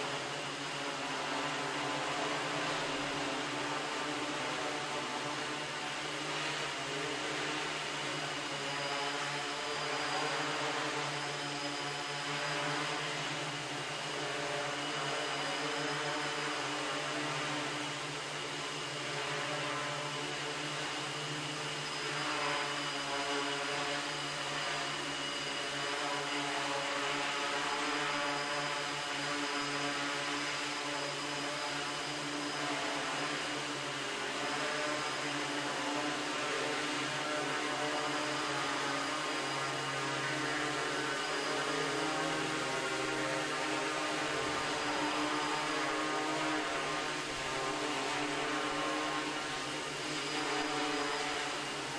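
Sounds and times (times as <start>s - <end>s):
drone motors buzzing whine: 0.0s - 51.9s.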